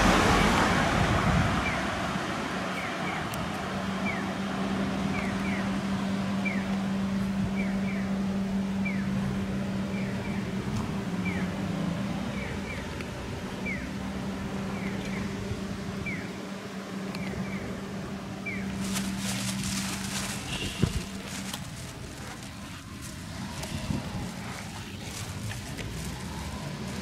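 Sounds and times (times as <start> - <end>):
street traffic hum: 0.0 - 27.0.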